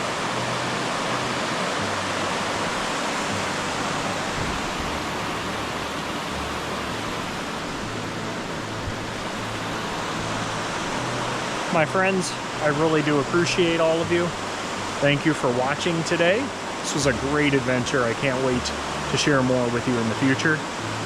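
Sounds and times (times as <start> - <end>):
water pouring down waterfalls: 0.0 - 21.0.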